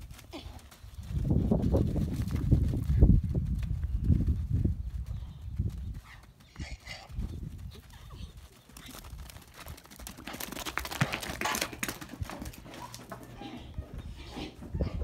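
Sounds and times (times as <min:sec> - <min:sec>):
hooves trotting on dirt: 0:00.0 - 0:15.0.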